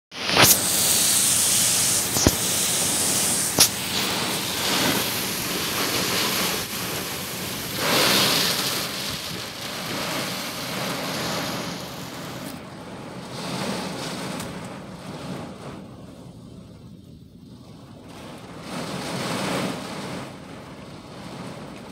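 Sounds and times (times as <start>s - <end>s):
wind and heavy rain on car: 0.1s - 21.9s.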